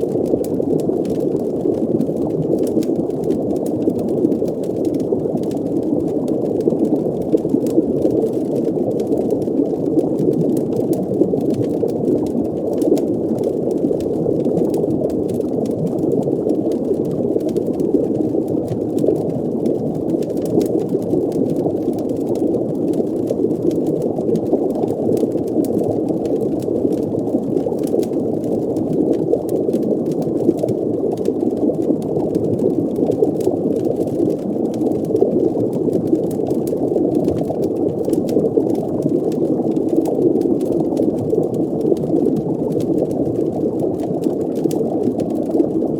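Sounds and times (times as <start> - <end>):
faint fire crackles: 0.0 - 45.9.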